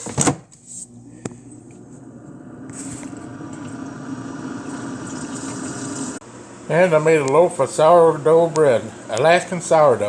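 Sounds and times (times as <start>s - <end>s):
air fryer fan humming: 0.0s - 10.0s.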